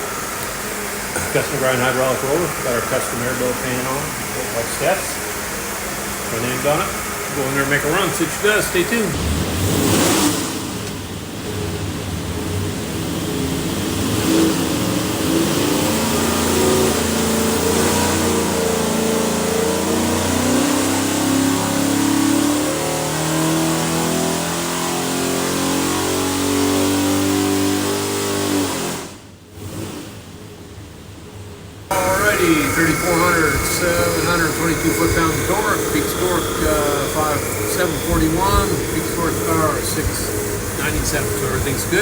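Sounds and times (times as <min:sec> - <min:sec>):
engine running hard: 0:00.0 - 0:42.0.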